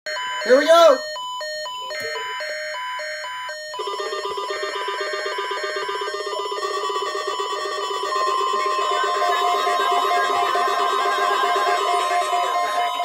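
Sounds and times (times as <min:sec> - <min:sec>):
fast buzzy repeating alarm: 0:00.1 - 0:13.0
pulsed electronic beeping: 0:00.1 - 0:13.0
steady high tone: 0:00.1 - 0:13.0.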